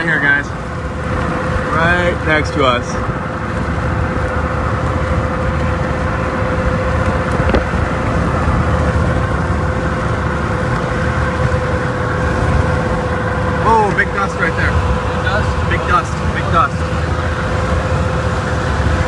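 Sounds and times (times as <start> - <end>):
constant droning hum: 0.0 - 19.0
tyre and wind rumble: 0.0 - 19.0.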